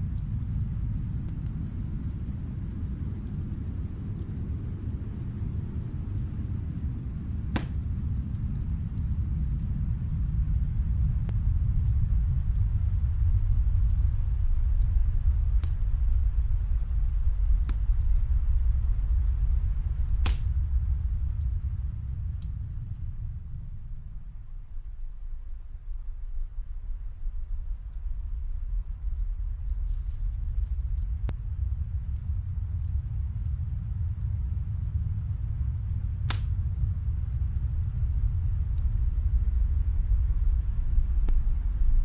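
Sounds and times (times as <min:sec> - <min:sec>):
wood fire crackling: 0:00.0 - 0:40.5
low steady rumble: 0:00.0 - 0:42.0.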